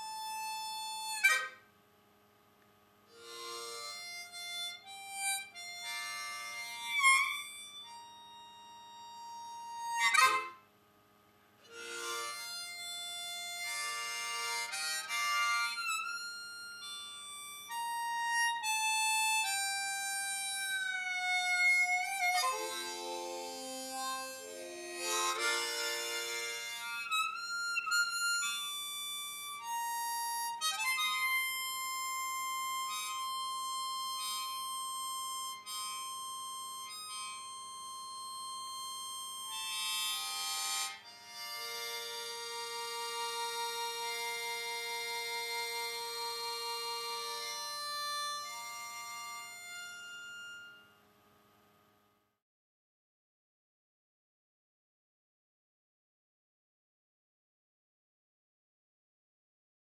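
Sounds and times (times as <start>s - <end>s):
harmonica playing held notes: 0.0s - 1.7s, 3.1s - 10.8s, 11.6s - 51.2s.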